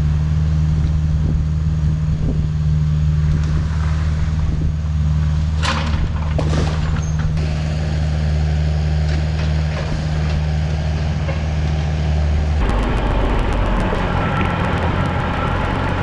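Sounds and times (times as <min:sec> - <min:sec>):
rough clicking engine sound: 0:00.0 - 0:11.8, 0:12.6 - 0:16.0
diesel engine running: 0:00.0 - 0:16.0.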